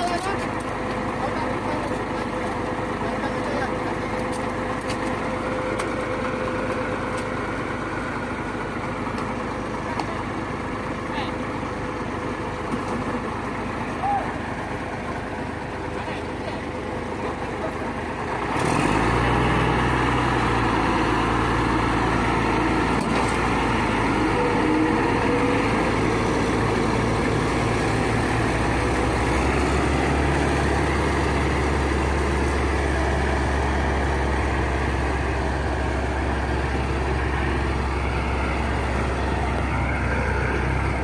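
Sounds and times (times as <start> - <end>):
heavy diesel engine under load: 0.0 - 41.0.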